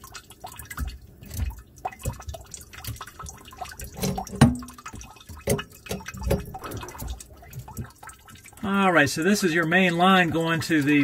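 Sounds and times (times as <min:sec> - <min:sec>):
water dripping: 0:00.0 - 0:11.0.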